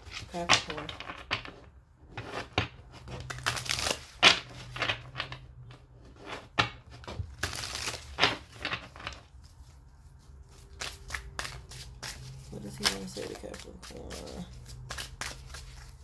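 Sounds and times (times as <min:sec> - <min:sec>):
cards shuffling on wooden table: 0:00.0 - 0:16.0.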